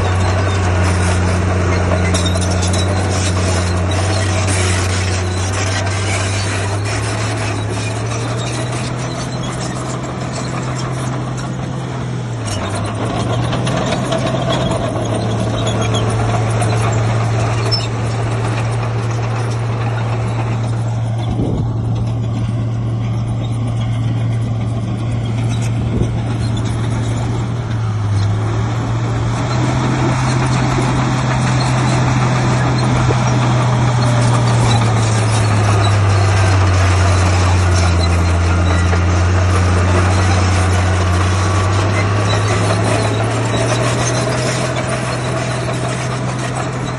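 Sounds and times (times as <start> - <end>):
heavy diesel engine under load: 0.0 - 46.9.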